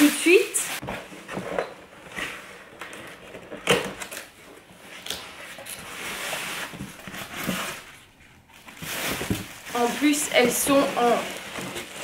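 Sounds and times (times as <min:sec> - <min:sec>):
packaging rustling: 0:00.8 - 0:12.0.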